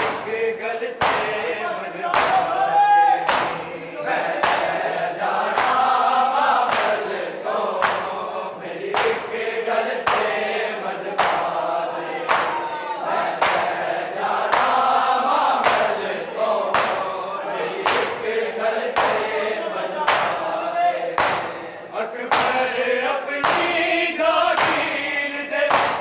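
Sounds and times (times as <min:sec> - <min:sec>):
hands slapping chests: 0:00.0 - 0:07.1, 0:07.7 - 0:08.2, 0:08.9 - 0:17.2, 0:17.8 - 0:21.7, 0:22.3 - 0:26.0
men chanting in unison: 0:00.0 - 0:26.0.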